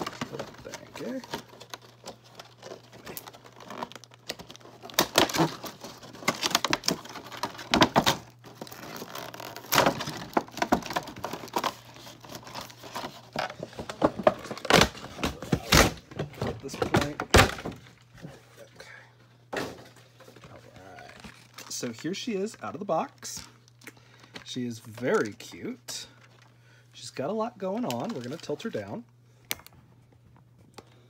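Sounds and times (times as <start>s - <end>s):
packaging crinkling and rustling: 0.0s - 18.7s, 19.6s - 26.6s, 27.4s - 31.0s.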